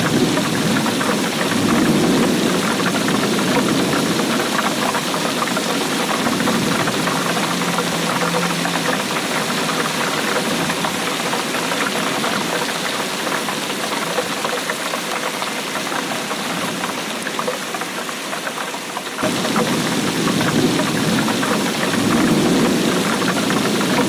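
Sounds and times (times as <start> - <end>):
steady rain patter: 0.0 - 24.0.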